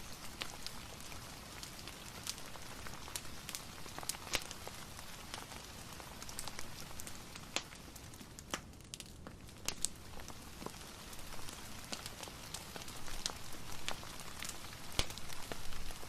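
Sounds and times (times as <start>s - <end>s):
rain hiss: 0.0s - 8.4s, 9.5s - 16.0s
fireplace crackling and popping: 0.0s - 16.0s.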